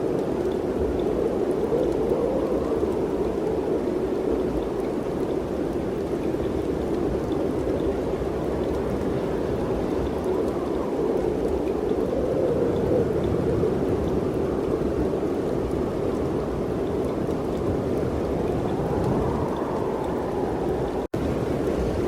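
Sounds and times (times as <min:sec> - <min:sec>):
faint ticks: 0:00.0 - 0:21.8
wind rushing: 0:00.0 - 0:22.0.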